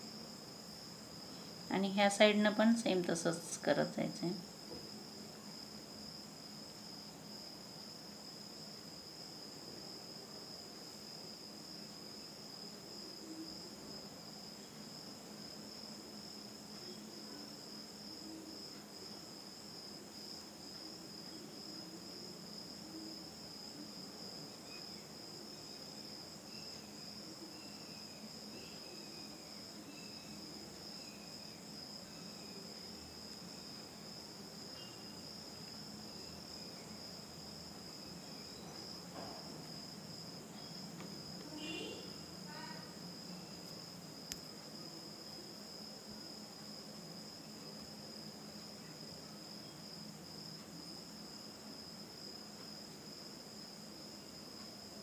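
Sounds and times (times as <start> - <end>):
insect chirring: 10.1 - 55.0.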